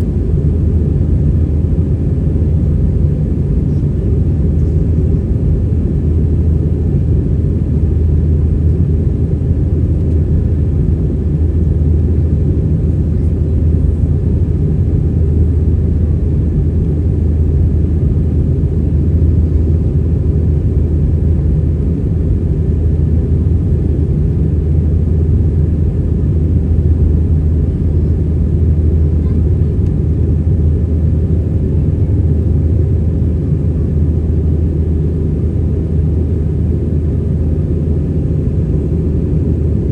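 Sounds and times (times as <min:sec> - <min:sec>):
airplane engines and airflow in cabin: 0:00.0 - 0:39.9.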